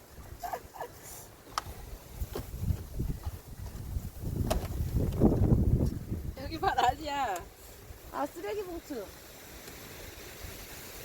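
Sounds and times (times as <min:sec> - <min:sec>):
wind gusting over microphone: 0:01.6 - 0:11.0.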